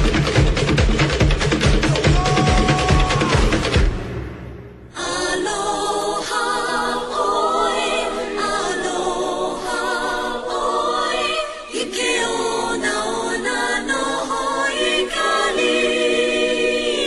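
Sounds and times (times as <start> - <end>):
choir singing: 1.9 - 17.0.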